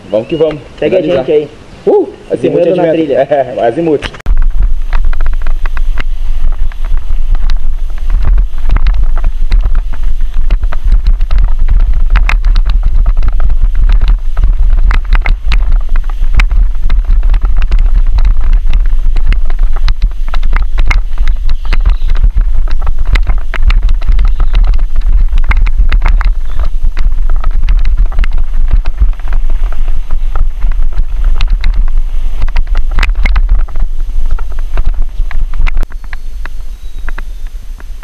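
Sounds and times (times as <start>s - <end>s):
wind buffeting microphone: 0.0s - 38.0s
bike knocking and rattling: 4.1s - 38.0s.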